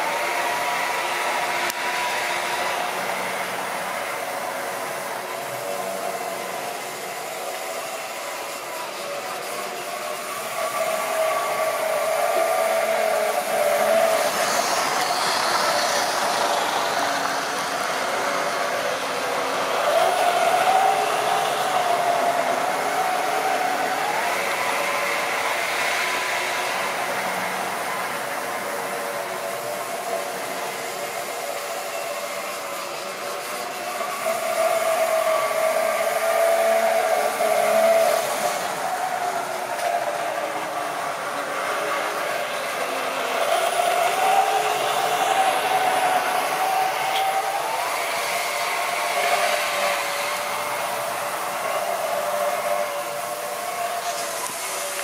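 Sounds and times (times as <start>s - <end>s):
model train motor whine: 0.0s - 55.0s
wheels rumbling on track: 0.0s - 55.0s.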